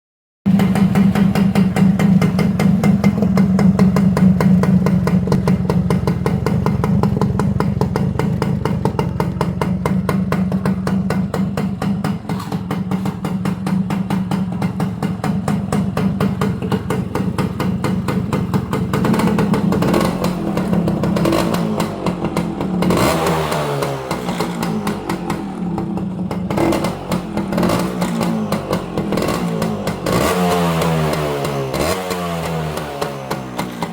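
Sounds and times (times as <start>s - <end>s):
motorcycle engine idling and revving: 0.4s - 33.9s.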